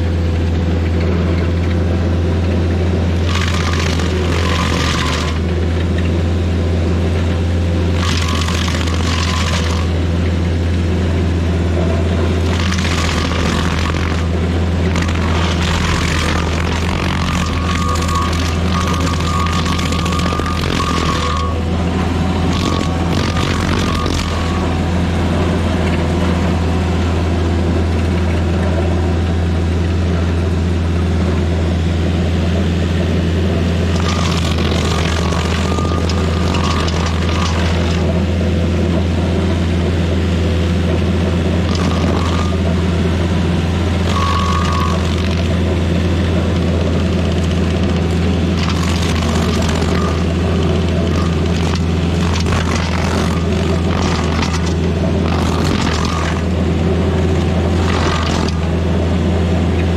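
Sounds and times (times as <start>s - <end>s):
stump grinder grinding roots: 0.0s - 59.9s.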